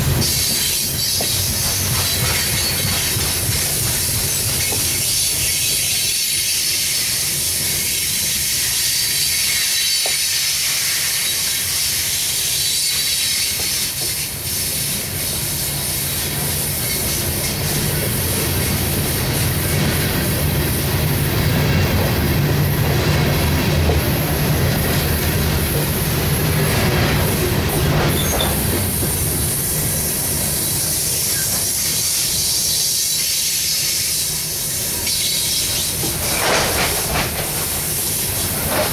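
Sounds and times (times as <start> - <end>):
rail clacks: 0.0 - 38.9
train wheels rumbling on rails: 0.0 - 38.9.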